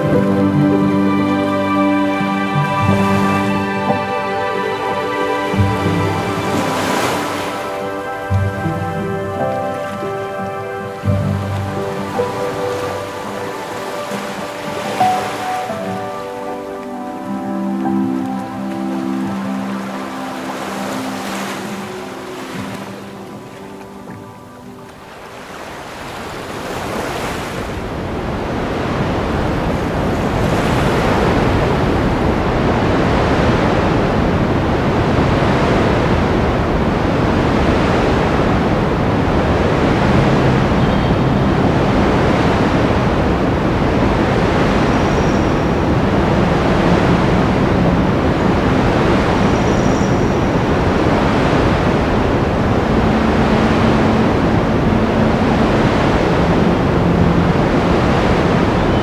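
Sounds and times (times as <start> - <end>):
sea waves breaking on shore: 0.0 - 59.0
wind on microphone: 0.0 - 59.0.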